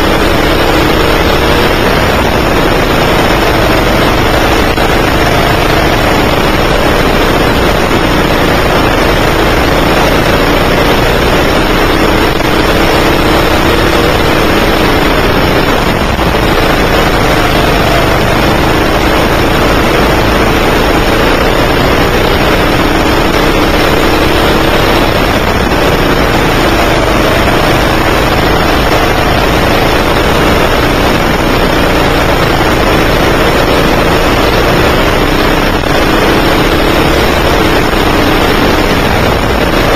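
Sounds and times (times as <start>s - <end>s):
dense rushing noise: 0.0s - 39.9s
go-kart engine running hard: 0.0s - 39.9s.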